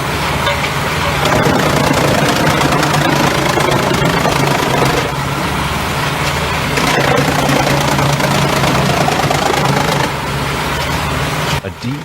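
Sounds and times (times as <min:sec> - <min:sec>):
diesel engine drone: 0:00.0 - 0:12.0
wood chipper grinding: 0:00.0 - 0:12.0.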